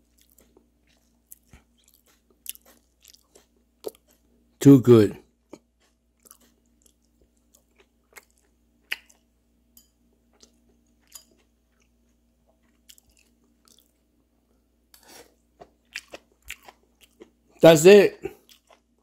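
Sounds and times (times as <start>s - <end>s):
chewing and crunching: 0.0s - 4.6s, 5.2s - 14.1s, 15.0s - 17.6s, 18.2s - 19.0s.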